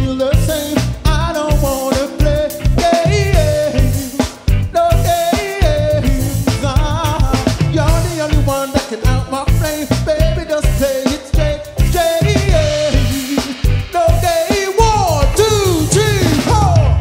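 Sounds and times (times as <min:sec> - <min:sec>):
bass and drum beat: 0:00.0 - 0:17.0
man singing into microphone: 0:00.0 - 0:17.0
reggae band playing: 0:00.0 - 0:17.0.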